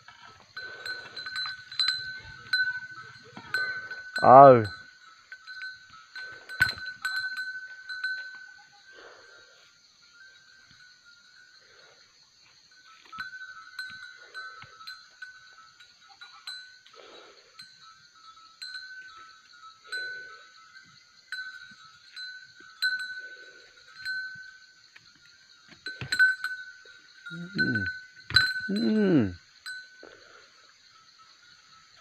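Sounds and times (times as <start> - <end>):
goat bells clinking: 0.0 - 32.0.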